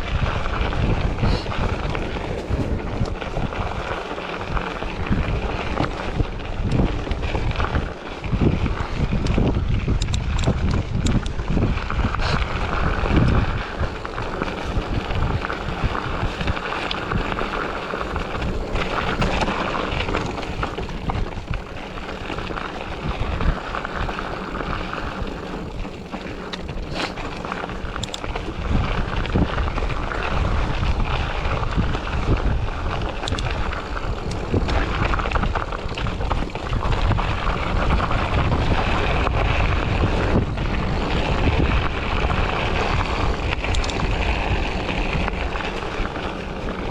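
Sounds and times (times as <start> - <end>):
road and tyre noise: 0.0 - 46.9
wind buffeting microphone: 0.0 - 46.9.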